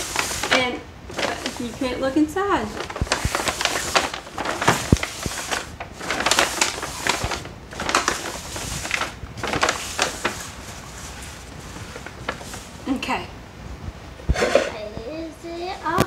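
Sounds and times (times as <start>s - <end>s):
bags crinkling and rustling: 0.0s - 13.2s.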